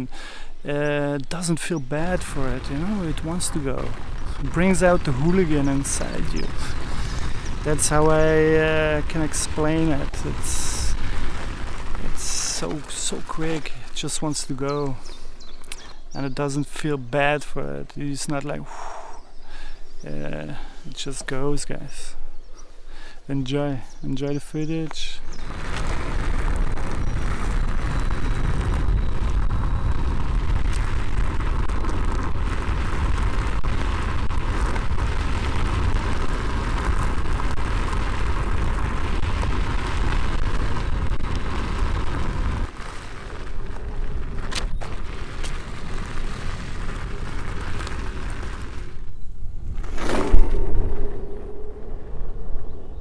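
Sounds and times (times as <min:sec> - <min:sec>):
tyres on gravel: 0:00.0 - 0:18.6, 0:24.4 - 0:51.7
wind rumble on microphone: 0:01.2 - 0:16.3, 0:25.0 - 0:53.0.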